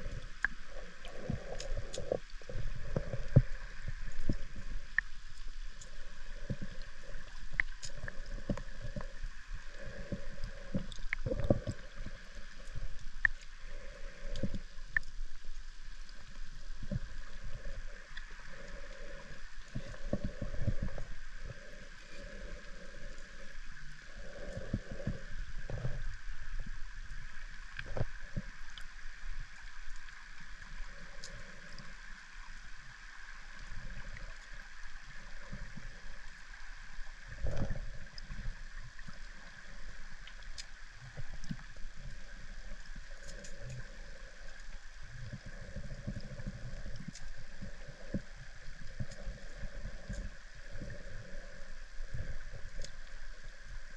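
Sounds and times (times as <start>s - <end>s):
faint clicks: 0.0s - 53.9s
underwater water gurgling: 0.0s - 53.9s.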